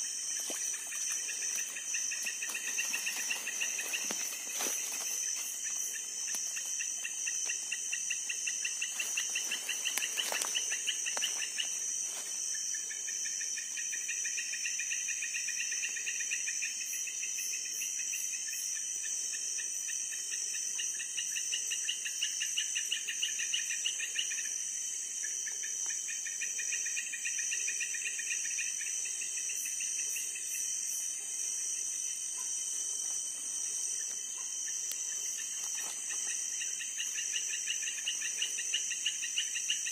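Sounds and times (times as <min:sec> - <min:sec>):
crickets chirping: 0:00.0 - 0:39.9
insects high-pitched ringing: 0:00.0 - 0:39.9
low insect trill: 0:00.0 - 0:39.9.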